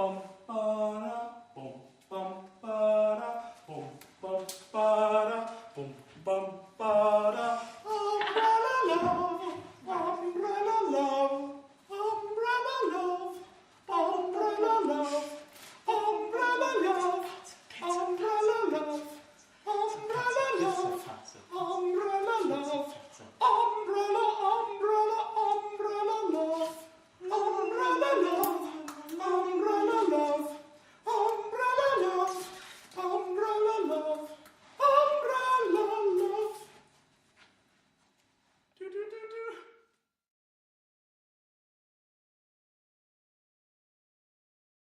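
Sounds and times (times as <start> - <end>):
person singing unaccompanied: 0.0 - 36.8, 38.8 - 39.8.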